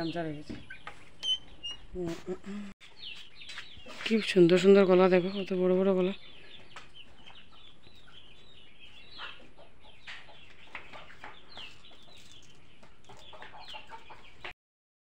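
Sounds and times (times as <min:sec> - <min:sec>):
chickens clucking: 0:00.0 - 0:14.5.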